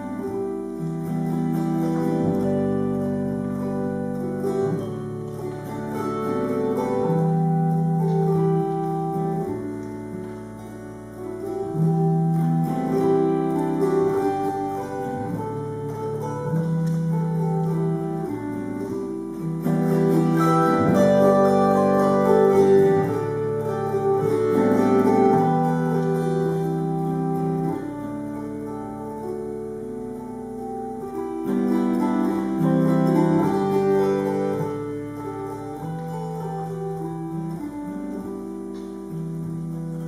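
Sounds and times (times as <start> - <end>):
autoharp strummed chords: 0.0 - 40.0.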